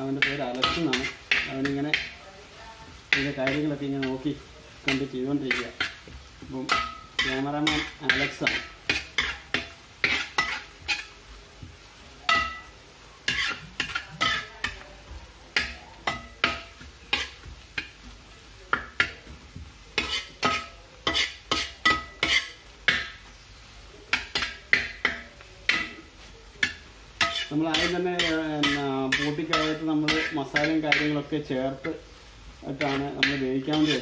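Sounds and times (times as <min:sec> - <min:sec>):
food sizzling: 0:00.0 - 0:34.0
metal spoon scraping frying pan: 0:00.1 - 0:02.2, 0:03.0 - 0:11.2, 0:12.3 - 0:14.8, 0:15.5 - 0:18.0, 0:19.9 - 0:23.2, 0:24.1 - 0:32.0, 0:32.6 - 0:34.0.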